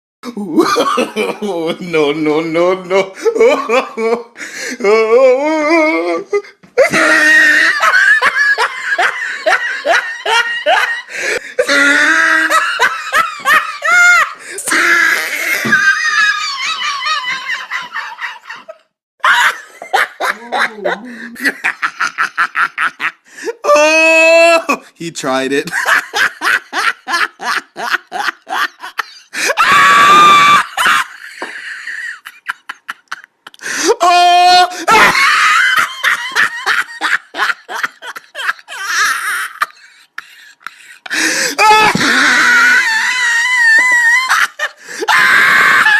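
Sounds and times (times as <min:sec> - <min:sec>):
person laughing hard: 0:00.3 - 0:02.0, 0:03.0 - 0:24.8, 0:25.7 - 0:45.9.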